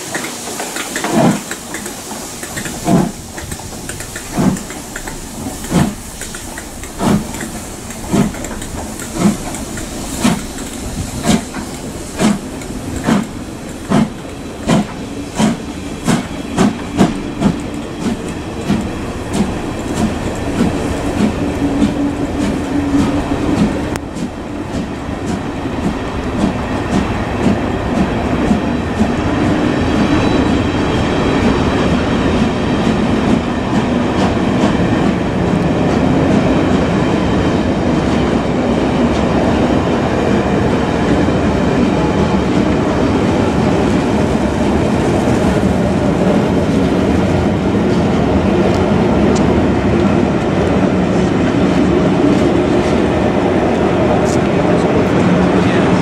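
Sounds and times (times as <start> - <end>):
steam locomotive exhaust beats: 0.0 - 56.0
train wheels rumbling on rails: 0.0 - 56.0.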